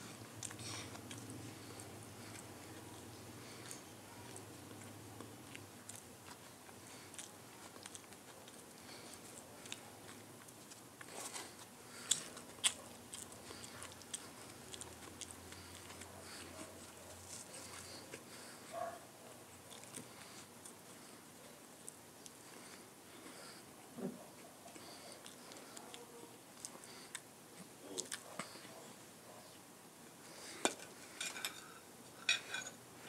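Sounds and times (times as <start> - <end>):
person chewing bread: 0.0 - 29.4.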